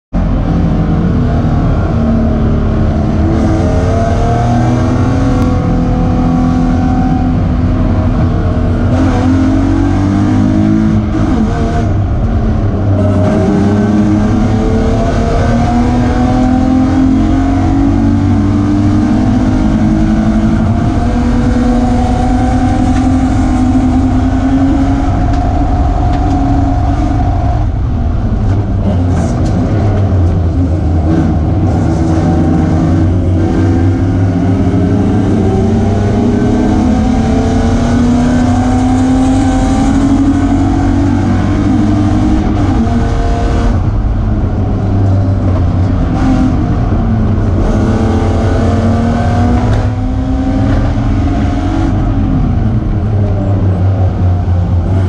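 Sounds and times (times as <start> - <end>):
race car engine accelerating: 0.1 - 55.0.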